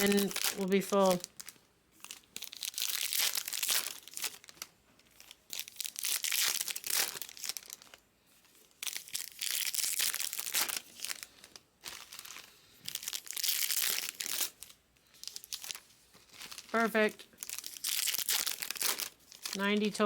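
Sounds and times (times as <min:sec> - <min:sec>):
plastic wrapping crinkling: 0:00.0 - 0:20.0.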